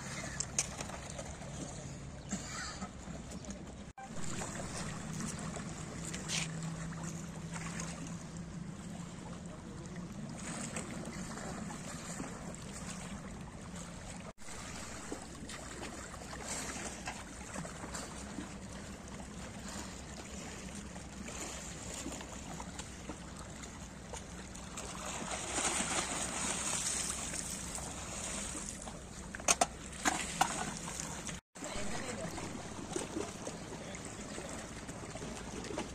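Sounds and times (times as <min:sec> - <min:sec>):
water lapping and splashing on rocks: 0:00.0 - 0:35.9
low steady hum: 0:00.1 - 0:35.9.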